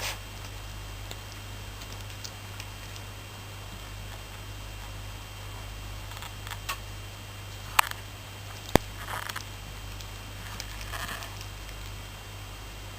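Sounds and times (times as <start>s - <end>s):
low electrical hum: 0.0s - 12.9s.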